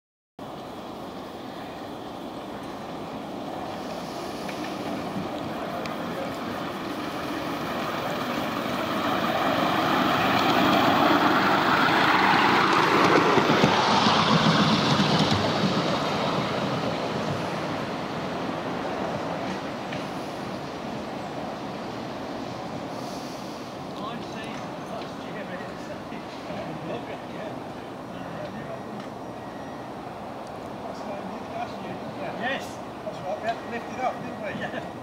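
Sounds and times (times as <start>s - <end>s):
miniature steam locomotive running: 0.4s - 35.0s.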